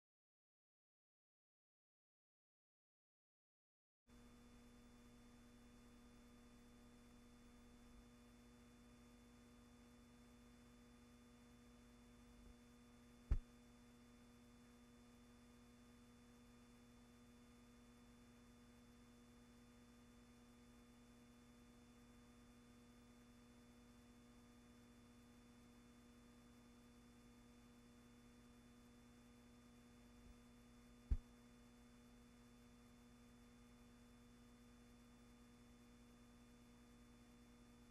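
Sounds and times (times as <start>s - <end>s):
faint electrical hum: 4.1s - 37.9s.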